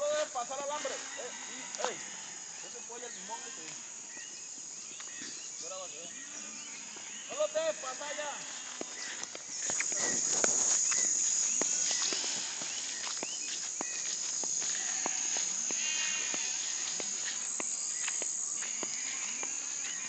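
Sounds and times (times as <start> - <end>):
night insect chorus: 0.0 - 20.0
short rapid insect trill: 0.0 - 20.0.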